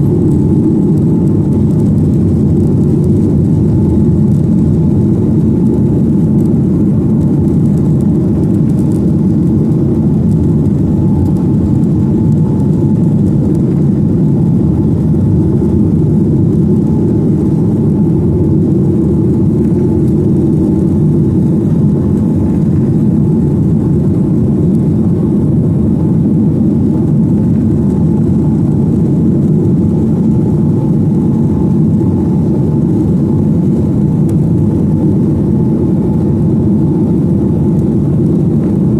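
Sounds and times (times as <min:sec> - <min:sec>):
airplane cabin engine rush: 0:00.0 - 0:38.9
faint steady hum: 0:00.0 - 0:38.9.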